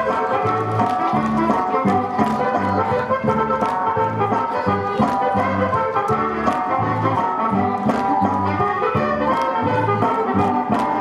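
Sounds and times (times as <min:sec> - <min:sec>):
dance music with steady beat: 0:00.0 - 0:11.0.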